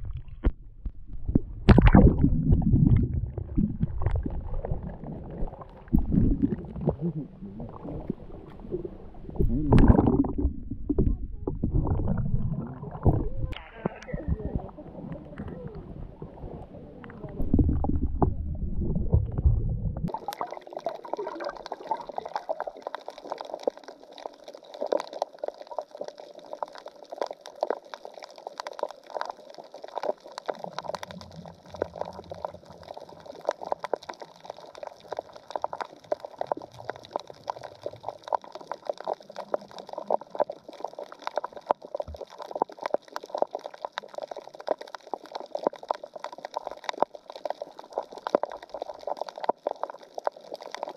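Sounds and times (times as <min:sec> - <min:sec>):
underwater rumble of water: 0:00.0 - 0:50.9.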